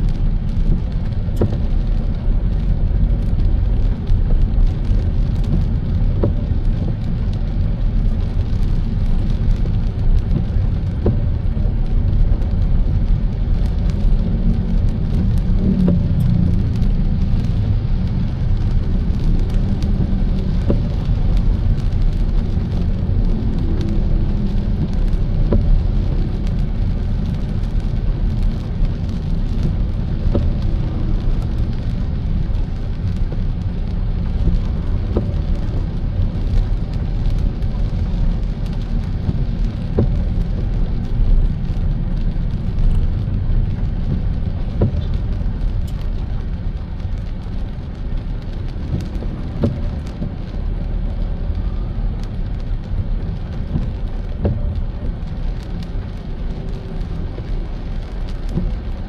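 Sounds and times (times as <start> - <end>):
car engine and road rumble: 0.0 - 59.0
raindrops ticking on car: 0.0 - 59.0.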